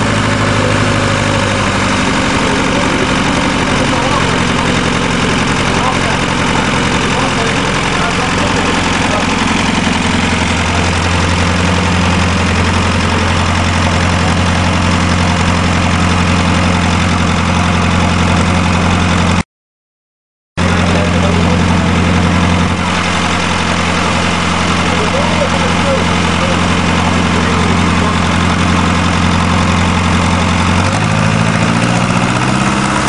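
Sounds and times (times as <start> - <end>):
diesel engine idling: 0.0 - 19.4, 20.6 - 33.0.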